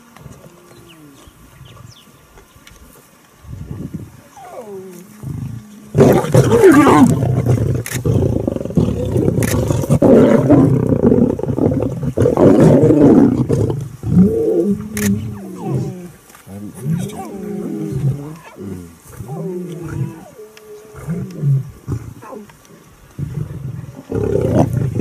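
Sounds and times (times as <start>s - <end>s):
lions growling and snarling: 4.3s - 25.0s.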